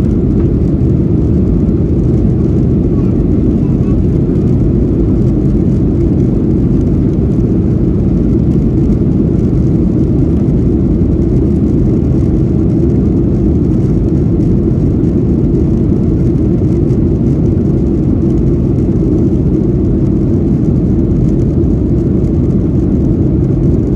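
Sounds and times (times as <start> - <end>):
airplane cabin rumble: 0.0 - 23.9.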